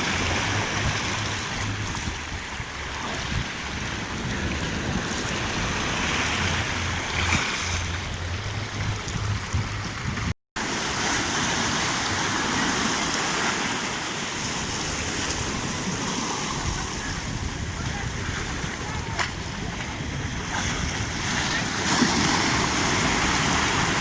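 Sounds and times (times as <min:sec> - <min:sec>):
wind buffeting microphone: 0:00.0 - 0:10.4, 0:14.4 - 0:24.0
waves breaking: 0:00.0 - 0:24.0.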